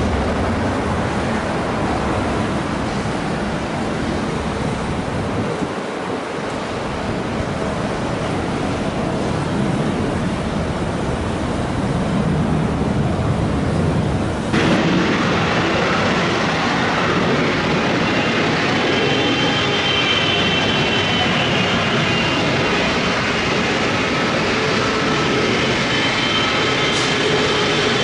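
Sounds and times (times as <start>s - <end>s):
high steady engine whine: 0.0s - 28.0s
jet engines roaring: 0.0s - 28.0s.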